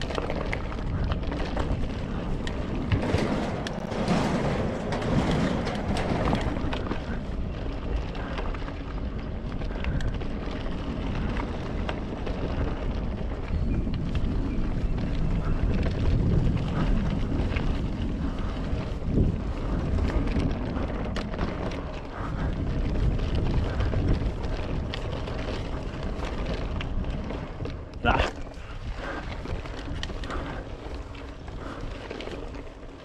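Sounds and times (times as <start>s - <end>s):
bike clicks and rattles: 0.0s - 33.0s
tyres rolling on dirt trail: 0.0s - 33.0s
wind buffeting microphone: 0.0s - 33.0s.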